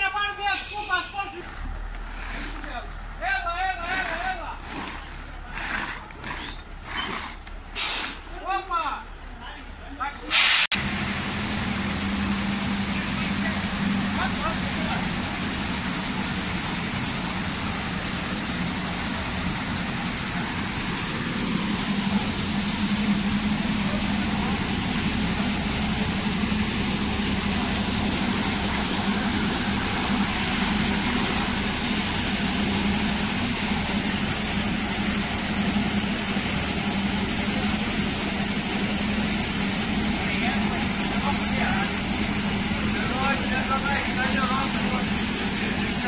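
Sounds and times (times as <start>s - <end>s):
combine harvester engine hum: 0.0s - 9.9s, 10.8s - 46.0s.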